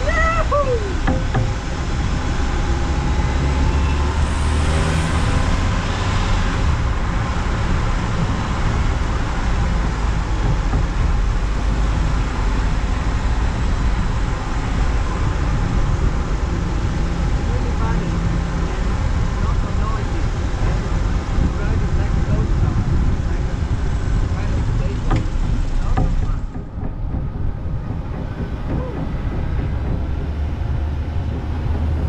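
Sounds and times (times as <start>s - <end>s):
car engine and tyre noise: 0.0s - 32.0s
wind rushing over microphone: 0.0s - 32.0s.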